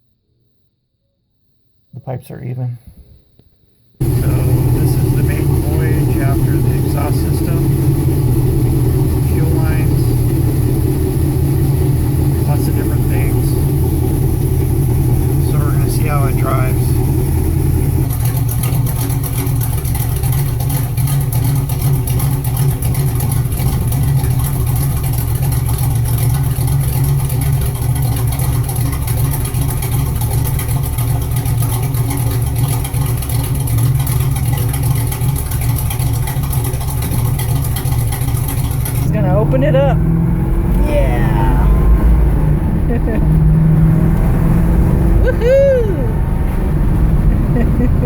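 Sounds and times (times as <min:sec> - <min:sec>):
car engine driving: 0:04.0 - 0:48.0.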